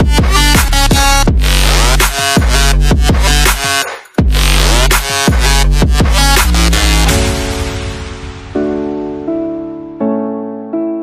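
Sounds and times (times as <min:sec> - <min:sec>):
electronic dance music: 0:00.0 - 0:09.2.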